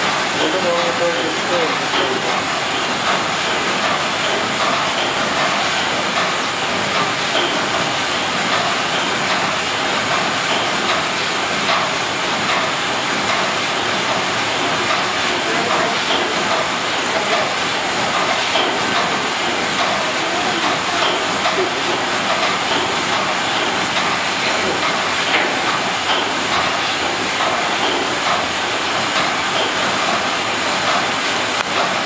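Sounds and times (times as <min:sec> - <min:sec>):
steam engine clattering and hissing: 0:00.0 - 0:32.0.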